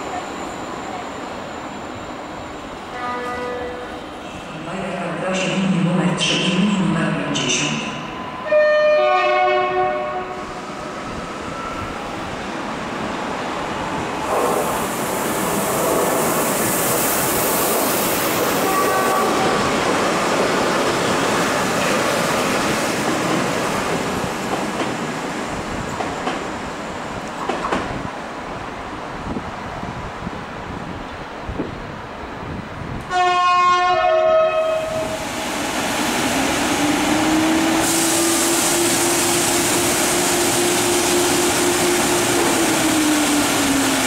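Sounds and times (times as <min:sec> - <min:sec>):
train rumbling along track: 0:00.0 - 0:44.0.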